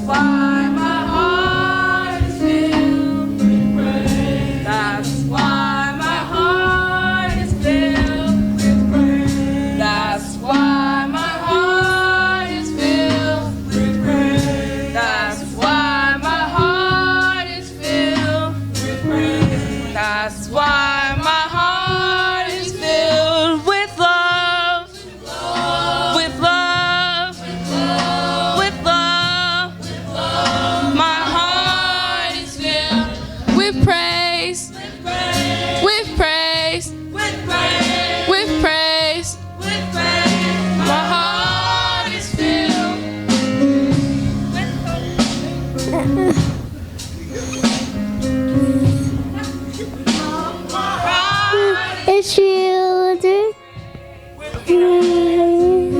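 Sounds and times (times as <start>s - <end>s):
instrumental accompaniment: 0.0s - 52.2s
choir singing gospel song: 0.0s - 52.6s, 53.5s - 55.9s.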